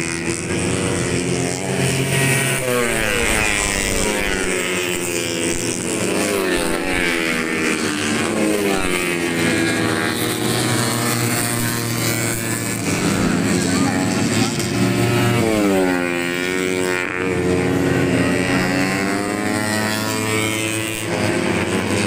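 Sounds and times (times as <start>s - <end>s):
race motorcycles passing at high revs: 0.0s - 22.0s.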